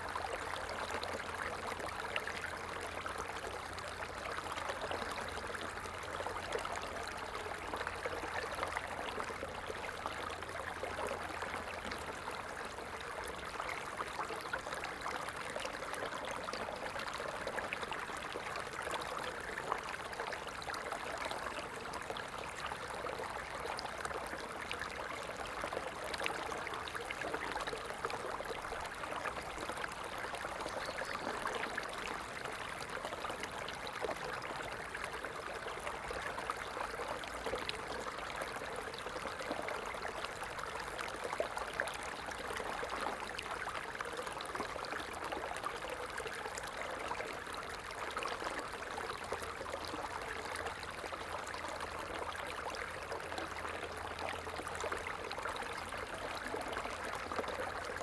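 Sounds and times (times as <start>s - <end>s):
small stream babbling: 0.0s - 58.0s.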